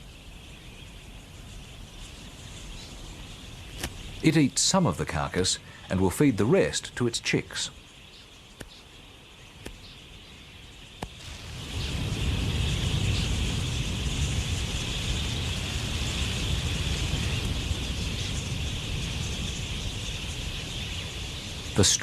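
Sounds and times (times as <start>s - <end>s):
low wind-like rumble: 0.0s - 22.0s.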